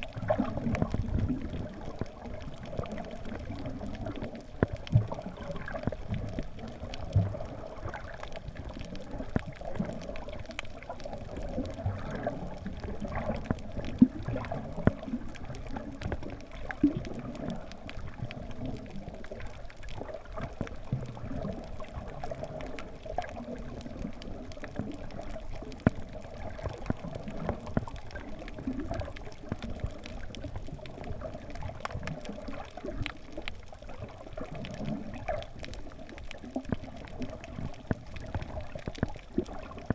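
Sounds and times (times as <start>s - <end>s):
crackles and knocks: 0.0s - 39.9s.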